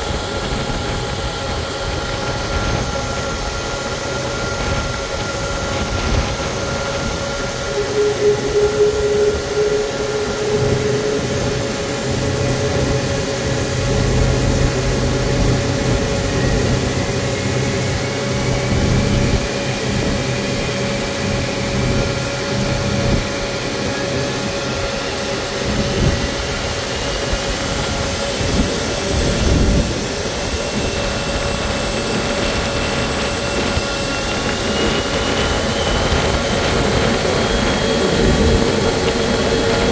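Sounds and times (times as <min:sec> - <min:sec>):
high rising engine whine: 0:00.0 - 0:39.9
jet engines humming: 0:00.0 - 0:39.9.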